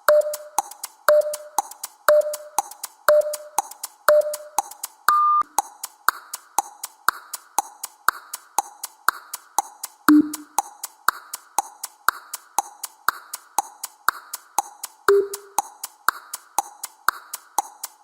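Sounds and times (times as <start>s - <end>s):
clock-like ticking: 0.0s - 18.0s.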